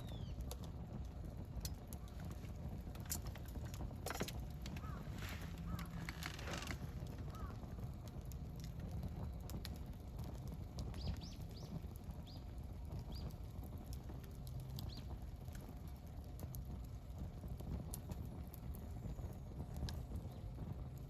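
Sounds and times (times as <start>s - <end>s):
low rumble of flame: 0.0s - 21.0s
wood crackling and popping: 0.0s - 21.0s.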